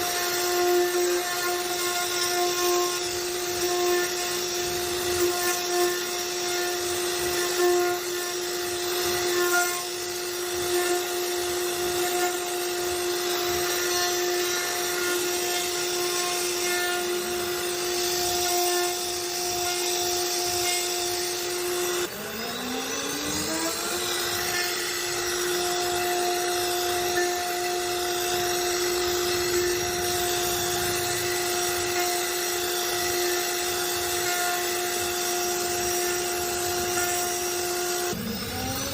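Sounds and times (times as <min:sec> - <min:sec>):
bit cutting wood: 0:00.0 - 0:38.9
router spindle whining: 0:00.0 - 0:38.9.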